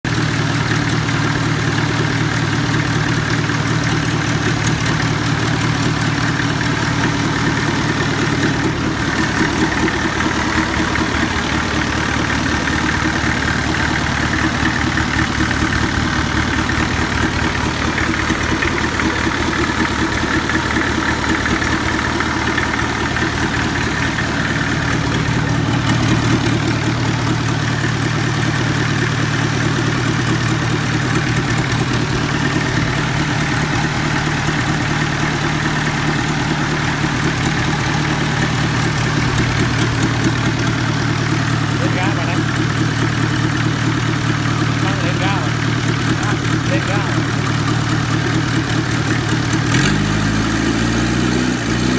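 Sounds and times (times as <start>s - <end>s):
forklift engine idling: 0.0s - 51.9s.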